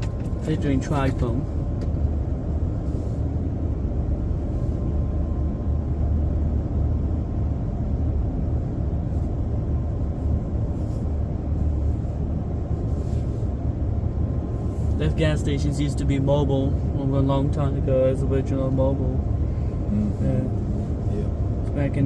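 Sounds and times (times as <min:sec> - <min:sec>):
car idling: 0:00.0 - 0:22.0.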